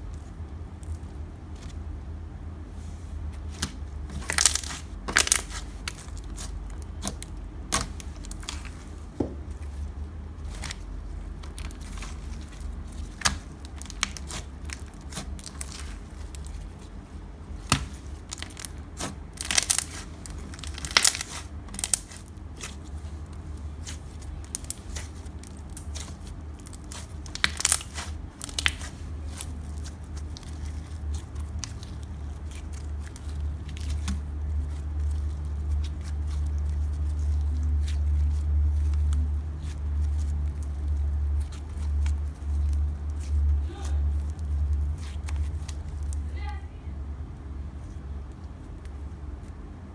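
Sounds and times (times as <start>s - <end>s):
slime squished by hand: 2.8s - 46.3s.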